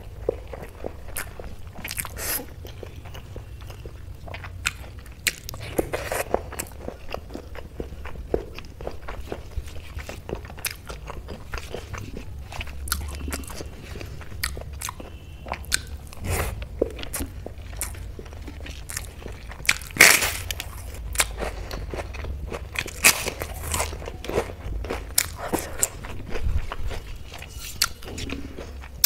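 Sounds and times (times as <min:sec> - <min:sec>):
chewing and crunching crisps: 0:00.0 - 0:29.0.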